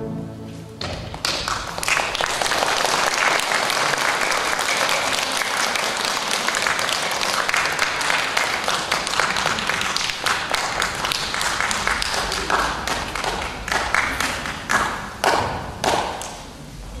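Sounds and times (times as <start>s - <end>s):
audience applauding: 1.0s - 16.5s.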